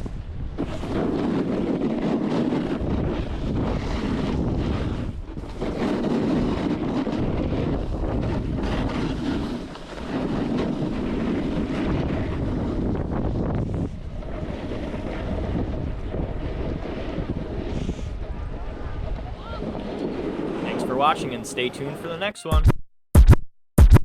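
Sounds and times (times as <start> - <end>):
snowboard edges scraping snow: 0.0 - 18.9, 19.6 - 22.2
wind rushing over microphone: 0.0 - 21.7.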